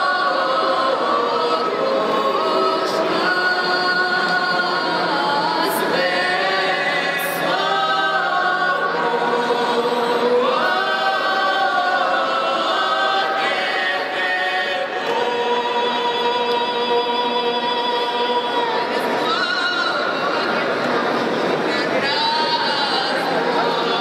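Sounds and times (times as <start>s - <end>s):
a cappella folk choir singing: 0.0s - 20.6s, 21.8s - 24.0s.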